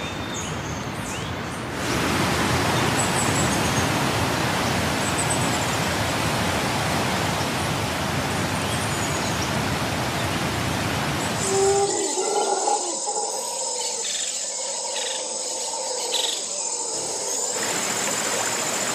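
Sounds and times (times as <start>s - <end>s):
waterfall rushing: 1.7s - 15.8s, 16.4s - 18.9s.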